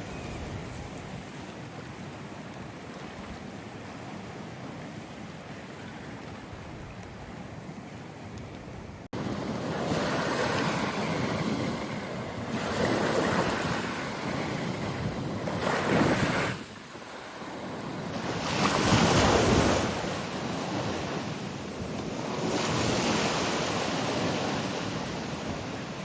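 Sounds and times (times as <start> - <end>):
waves breaking: 0.0 - 26.0
wind buffeting microphone: 0.0 - 26.0.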